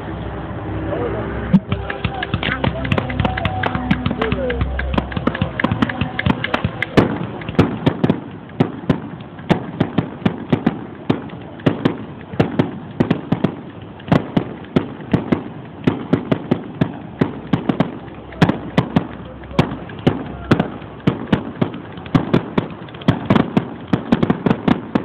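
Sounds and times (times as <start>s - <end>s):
fireworks bangs and cracks: 1.5s - 25.0s.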